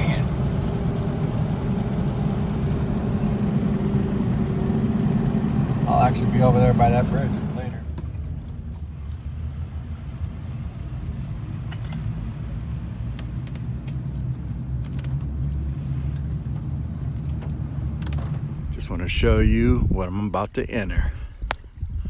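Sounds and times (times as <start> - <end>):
vehicle engine idling: 0.0 - 19.5.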